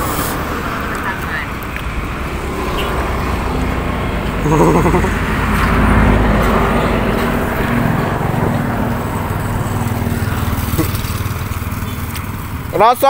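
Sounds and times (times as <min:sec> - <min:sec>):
motorbike engine: 0:00.0 - 0:13.0
pickup truck engine: 0:00.0 - 0:13.0.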